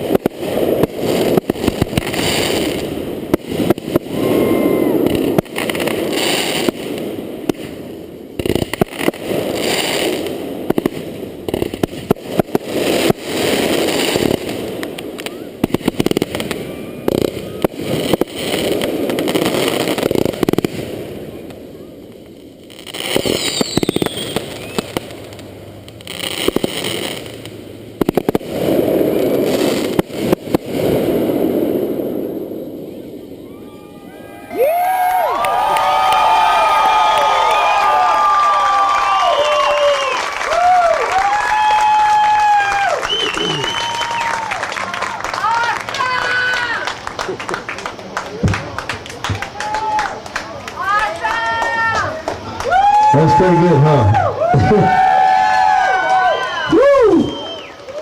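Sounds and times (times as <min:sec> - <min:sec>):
fireworks bangs: 0:00.0 - 0:58.0
fireworks crackling: 0:00.0 - 0:58.0.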